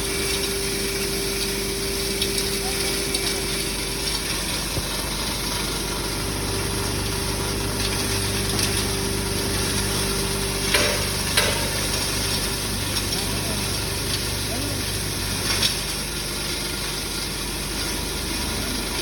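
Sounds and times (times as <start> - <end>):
herb grinding machine humming: 0.0 - 19.0.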